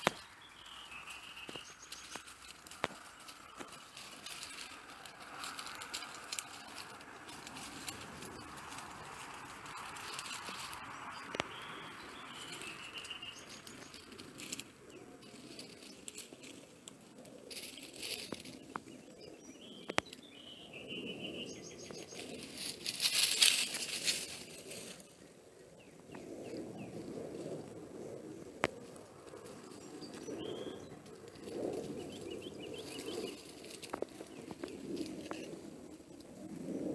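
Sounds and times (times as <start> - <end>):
animals rustling through dry leaves: 0.0 - 36.9.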